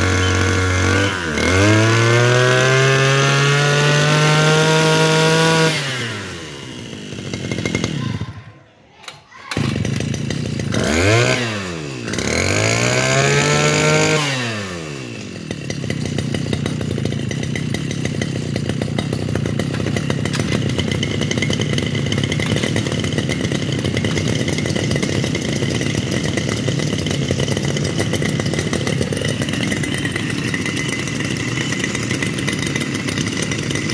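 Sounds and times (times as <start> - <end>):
mower engine revving and idling: 0.0 - 8.4, 9.5 - 33.9.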